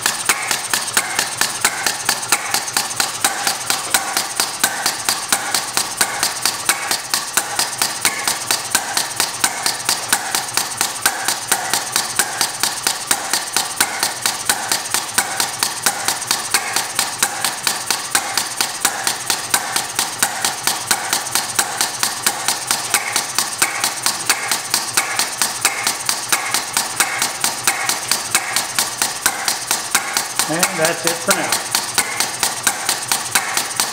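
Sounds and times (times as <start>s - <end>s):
engine mechanical clicking: 0.0s - 33.9s.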